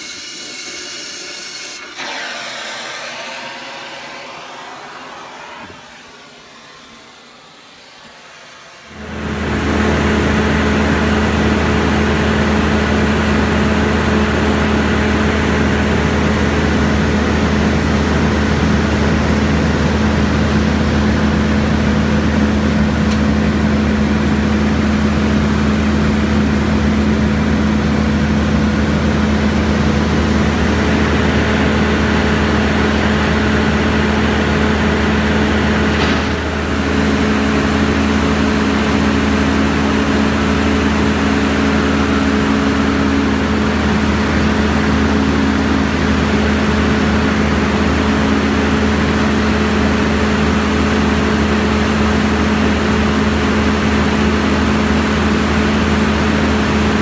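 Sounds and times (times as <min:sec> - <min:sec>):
excavator diesel engine running: 0:01.9 - 0:57.0.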